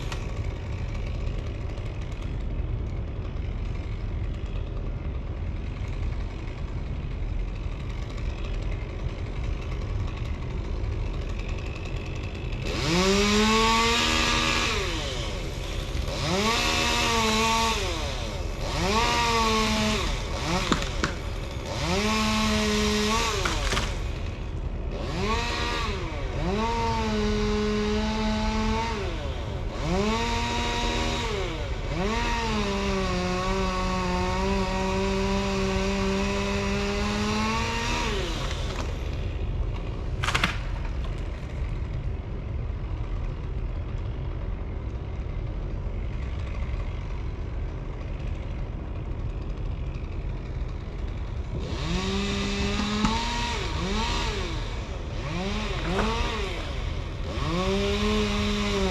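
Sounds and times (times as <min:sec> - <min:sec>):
chainsaw running at full throttle: 0:00.0 - 0:58.9.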